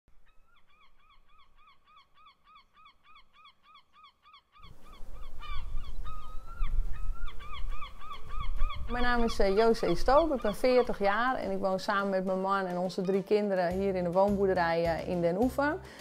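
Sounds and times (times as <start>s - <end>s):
bird calling: 0.2s - 13.5s.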